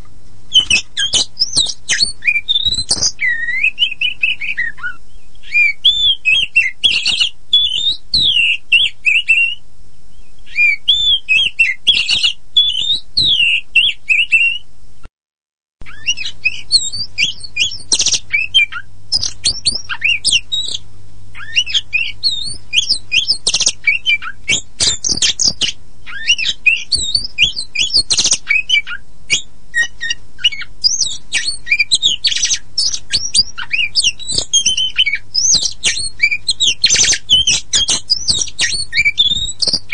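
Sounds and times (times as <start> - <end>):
bird singing: 0.5 - 14.7, 15.8 - 20.8, 21.4 - 39.9.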